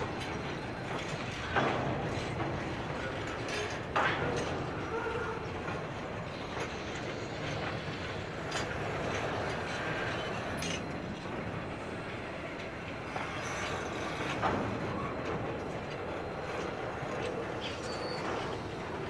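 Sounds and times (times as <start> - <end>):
locomotives and wagons rumbling: 0.0 - 19.0.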